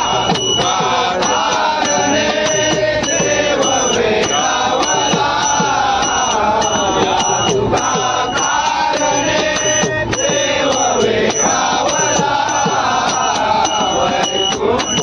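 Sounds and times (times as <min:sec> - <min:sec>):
men chanting in chorus: 0:00.0 - 0:15.0
small hand cymbals beating: 0:00.0 - 0:15.0.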